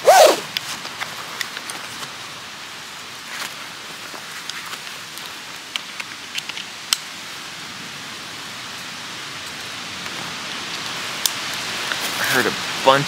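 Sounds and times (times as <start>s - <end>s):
wind through trees: 0.0s - 13.0s.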